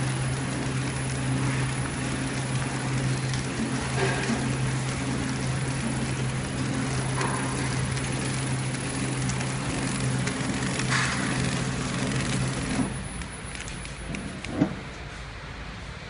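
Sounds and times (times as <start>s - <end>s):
mechanical whirr: 0.0s - 15.1s
machine motor hum: 0.0s - 15.9s.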